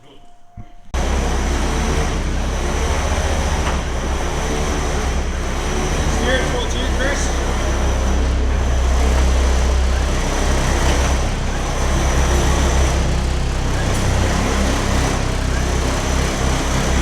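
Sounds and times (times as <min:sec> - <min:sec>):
vehicle engine and road rumble: 0:00.9 - 0:17.0.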